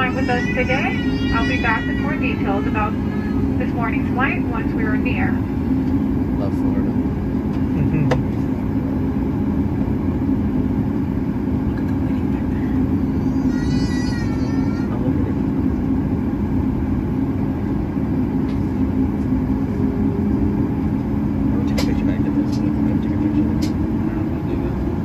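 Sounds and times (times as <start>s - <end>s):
airplane cabin engine hum: 0.0s - 25.0s.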